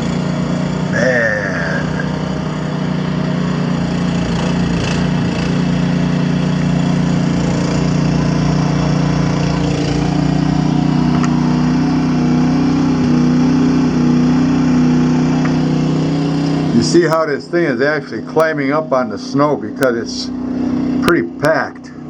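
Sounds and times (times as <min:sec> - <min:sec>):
snowblower engine under load: 0:00.0 - 0:22.0.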